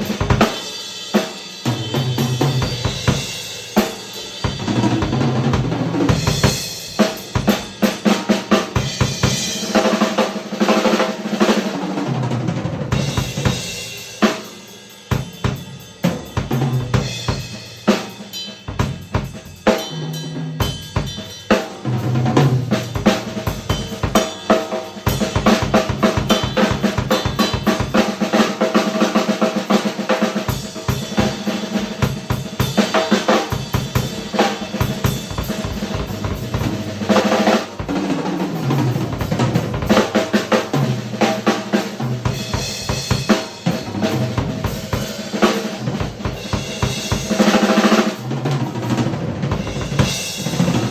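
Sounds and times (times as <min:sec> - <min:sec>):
drum kit groove: 0:00.0 - 0:50.9.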